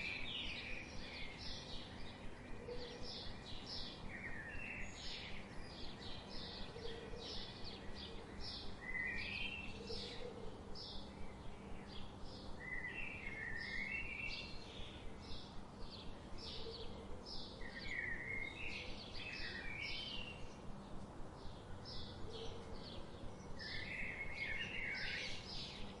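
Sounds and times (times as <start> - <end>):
birds chirping and singing: 0.0 - 26.0
steady background hiss: 0.0 - 26.0.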